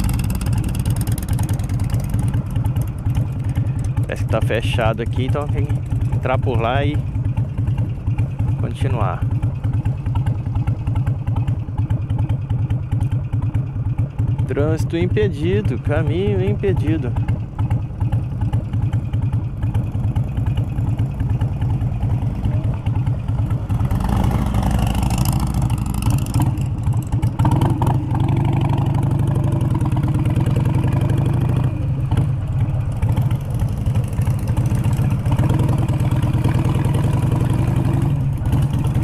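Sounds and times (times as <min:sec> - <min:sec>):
motorcycle engine rumbling: 0:00.0 - 0:39.0.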